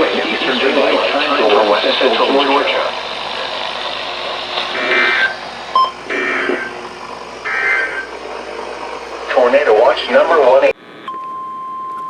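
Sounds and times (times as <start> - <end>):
radio static hiss: 0.0 - 11.2.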